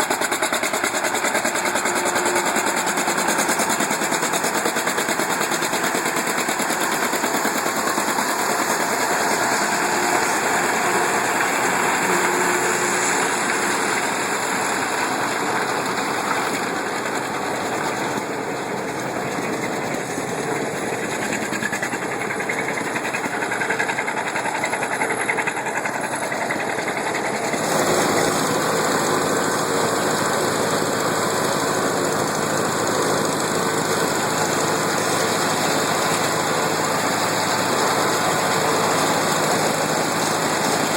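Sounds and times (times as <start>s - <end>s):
harvesting machinery running: 0.0s - 40.9s
steady engine drone: 0.0s - 40.9s
tractor engines running: 0.0s - 40.9s.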